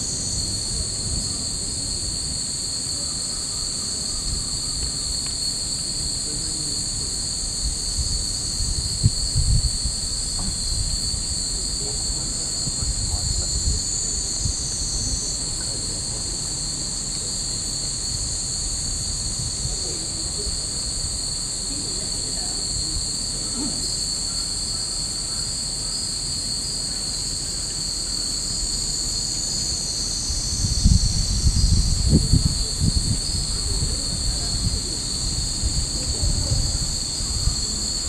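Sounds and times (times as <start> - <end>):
cicadas droning: 0.0 - 38.0.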